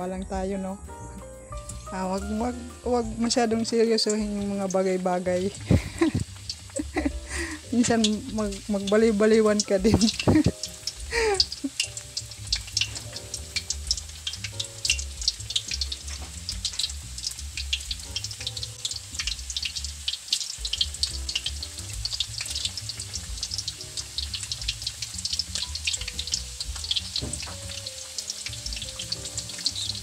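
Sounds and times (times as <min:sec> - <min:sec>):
banana deep-frying in oil: 0:00.0 - 0:30.0
oil crackling pops: 0:03.6 - 0:30.0.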